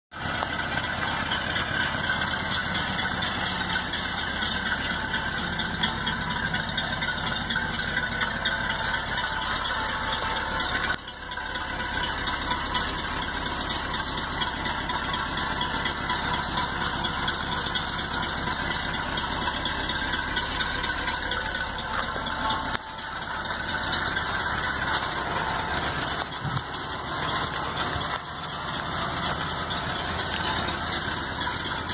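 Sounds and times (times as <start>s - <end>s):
pickup truck engine idling: 0.1s - 31.9s.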